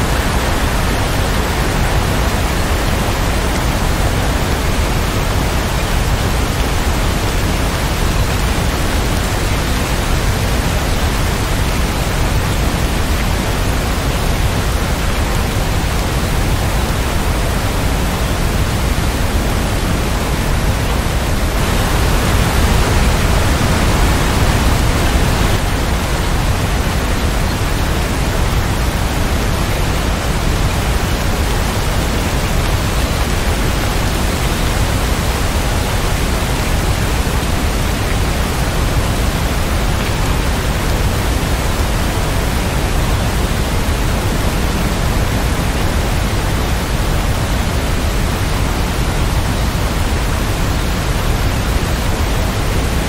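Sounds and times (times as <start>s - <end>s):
steady dense rain: 0.0s - 53.0s.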